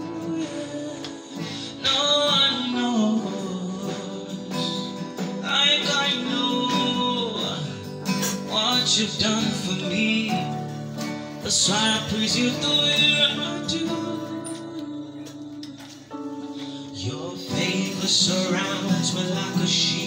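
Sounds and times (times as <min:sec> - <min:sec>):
live band gospel song: 0:00.0 - 0:20.0.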